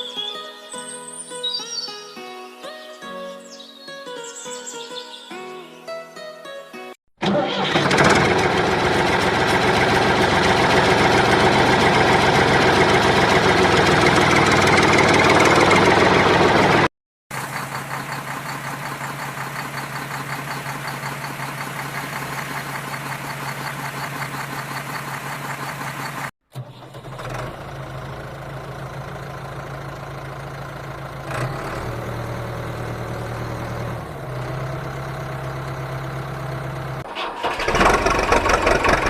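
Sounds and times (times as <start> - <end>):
tractor engine running: 7.2 - 39.0.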